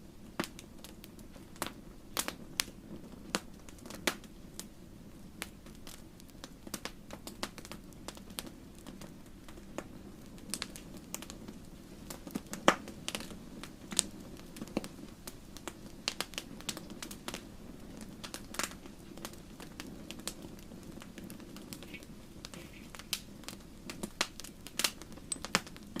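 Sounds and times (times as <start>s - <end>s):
low rumble of burning: 0.0s - 26.0s
wood fire crackling and popping: 0.0s - 26.0s.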